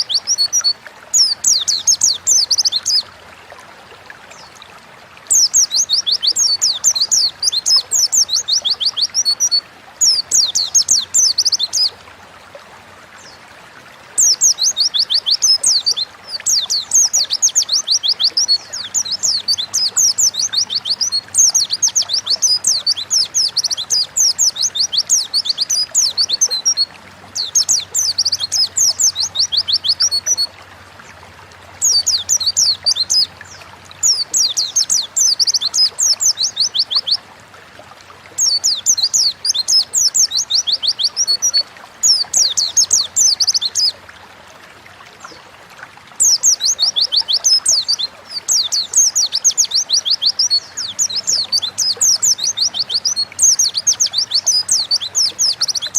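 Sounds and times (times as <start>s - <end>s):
bird twittering chirps: 0.0s - 3.1s, 5.3s - 12.0s, 14.2s - 30.5s, 31.8s - 37.2s, 38.4s - 44.0s, 46.2s - 55.9s.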